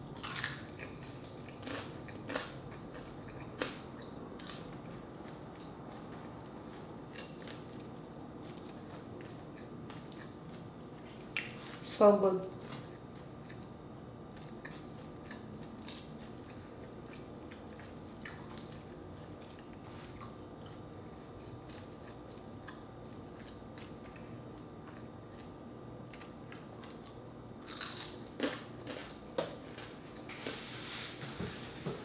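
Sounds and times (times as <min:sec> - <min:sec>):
crunching chews: 0:00.2 - 0:11.8, 0:12.6 - 0:30.3.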